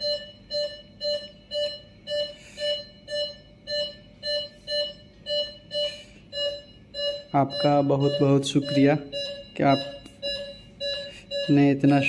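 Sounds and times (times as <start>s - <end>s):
medical alarm beeping: 0.0s - 12.0s.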